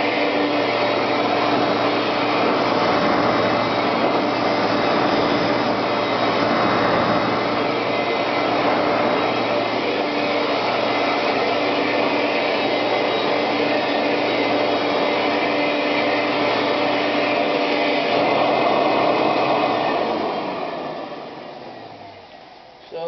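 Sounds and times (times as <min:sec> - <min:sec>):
vacuum motor winding down: 0:00.0 - 0:22.6
vacuum cleaner running: 0:00.0 - 0:22.8.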